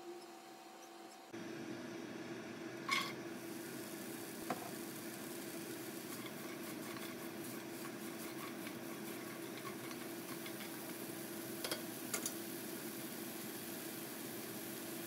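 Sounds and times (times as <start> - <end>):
steady background hum: 0.0 - 15.0
spatula stirring vegetables in skillet: 2.9 - 15.0.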